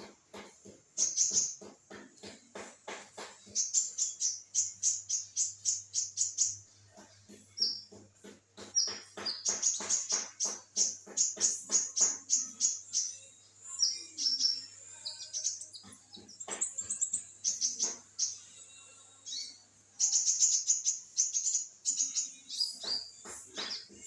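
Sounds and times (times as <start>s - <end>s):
sunbird singing: 1.0s - 8.0s, 8.6s - 24.0s.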